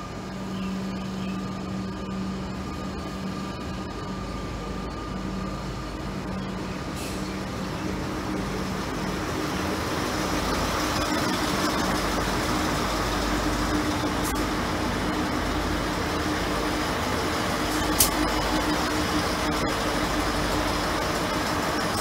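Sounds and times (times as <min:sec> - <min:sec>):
diesel engine drone: 0:00.0 - 0:22.0
wheel and rail noise: 0:00.0 - 0:22.0.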